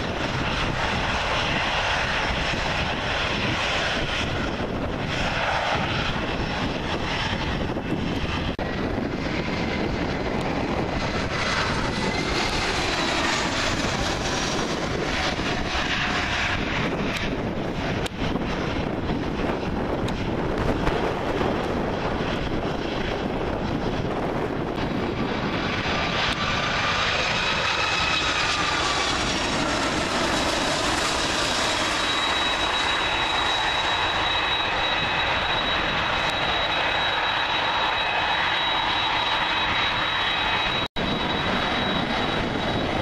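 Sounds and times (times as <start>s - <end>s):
high engine whine: 0.0s - 43.0s
jet engine rush: 0.0s - 43.0s.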